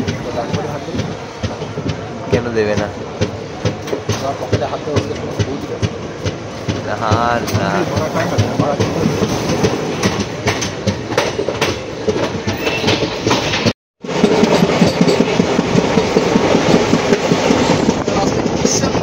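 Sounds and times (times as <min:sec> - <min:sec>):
train coach rattling and clicking: 0:00.0 - 0:19.0
train wheels clattering over rail joints: 0:00.0 - 0:19.0.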